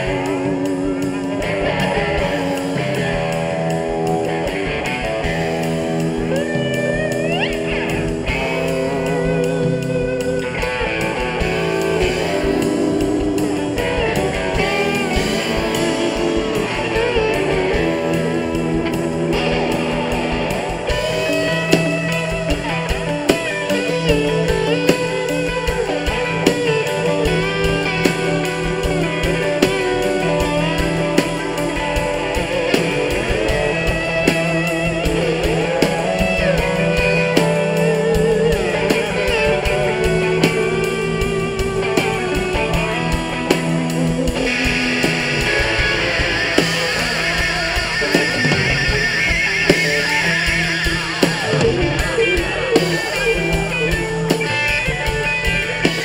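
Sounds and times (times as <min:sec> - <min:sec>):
bass guitar: 0:00.0 - 0:56.0
drum kit: 0:00.0 - 0:56.0
electric dobro bending lead line: 0:00.0 - 0:56.0
electric guitar: 0:00.0 - 0:56.0.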